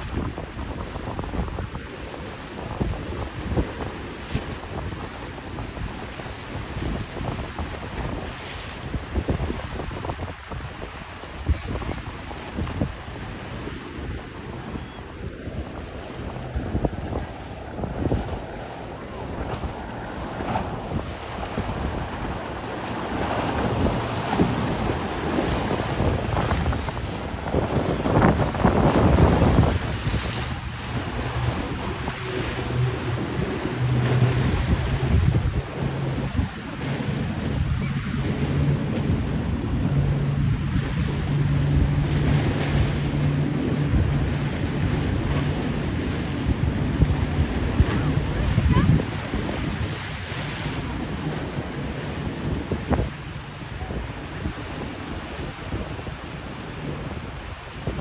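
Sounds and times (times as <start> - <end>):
motorboat engine droning: 0.0 - 58.0
waves rushing: 0.0 - 58.0
wind buffeting microphone: 0.0 - 58.0.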